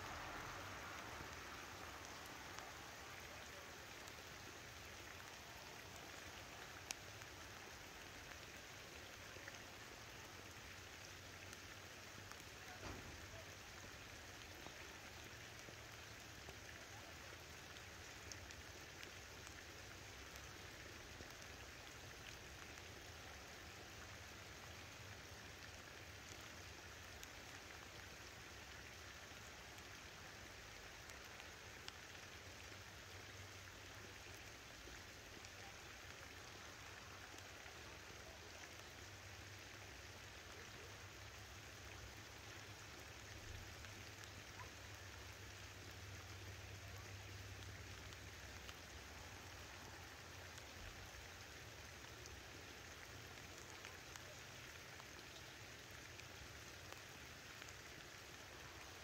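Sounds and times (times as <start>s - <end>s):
light pattering rain: 0.0s - 59.0s.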